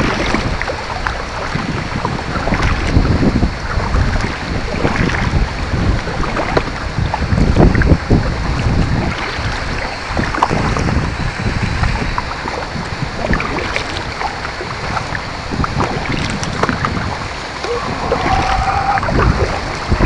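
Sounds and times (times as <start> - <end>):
paddle splashes and drips: 0.0 - 20.0
water splashing and trickling: 0.0 - 20.0
wind rumble on microphone: 0.0 - 20.0.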